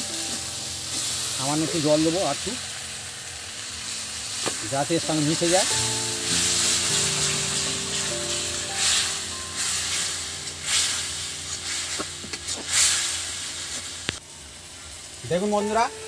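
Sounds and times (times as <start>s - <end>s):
soft background music: 0.0s - 2.8s, 4.5s - 14.0s, 15.2s - 16.0s
spice paste sizzling in oil: 0.0s - 16.0s.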